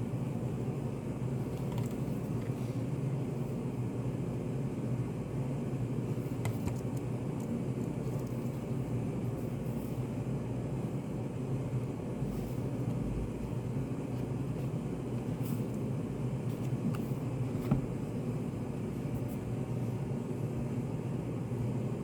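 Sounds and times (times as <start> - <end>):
low room ambience rumble: 0.0 - 22.0.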